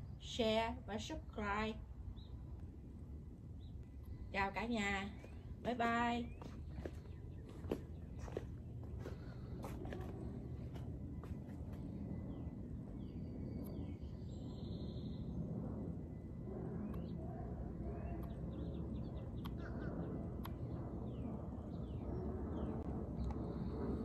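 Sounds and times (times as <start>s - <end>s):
low outdoor rumble: 0.0s - 24.0s
birds chirping: 3.4s - 24.0s.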